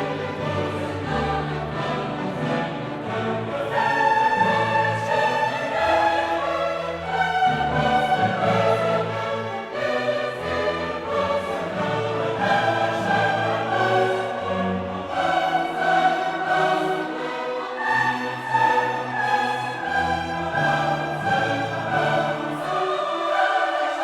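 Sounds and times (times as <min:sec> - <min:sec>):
orchestral or choral music: 0:00.0 - 0:24.0.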